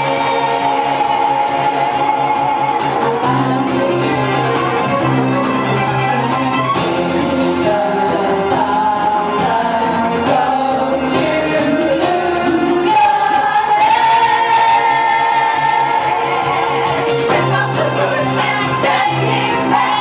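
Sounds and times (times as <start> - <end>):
backing track music: 0.0 - 20.0
person singing karaoke: 0.0 - 20.0.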